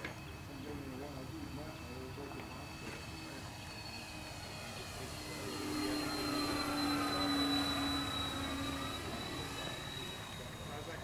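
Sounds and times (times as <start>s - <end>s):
model plane propellers whining: 0.0s - 11.0s.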